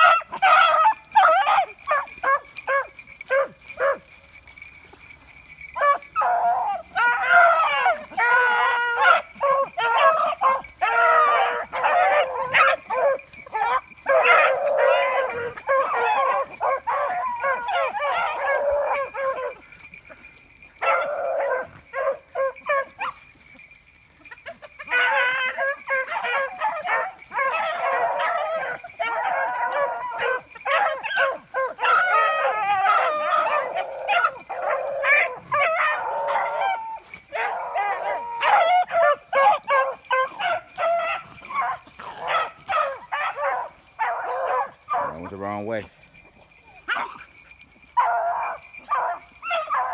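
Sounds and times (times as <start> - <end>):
pack of dogs baying: 0.0 - 49.9.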